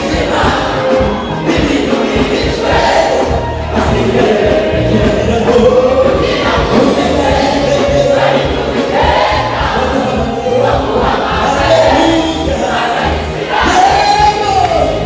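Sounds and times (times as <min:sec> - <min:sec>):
amplified band with bass: 0:00.0 - 0:15.0
gospel choir singing: 0:00.0 - 0:15.0.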